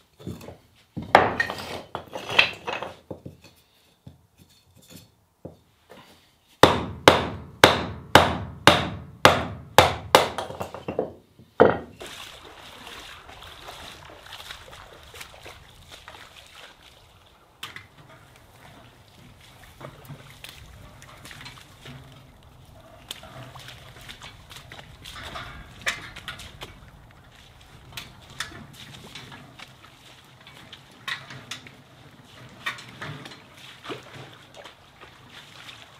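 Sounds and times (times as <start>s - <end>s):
outdoor background: 0.0s - 35.9s.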